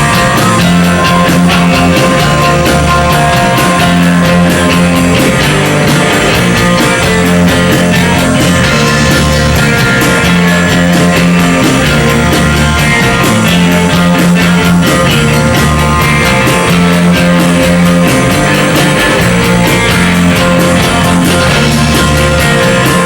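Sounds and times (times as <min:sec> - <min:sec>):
bass guitar notes: 0:00.0 - 0:23.0
rock band playing: 0:00.0 - 0:23.0.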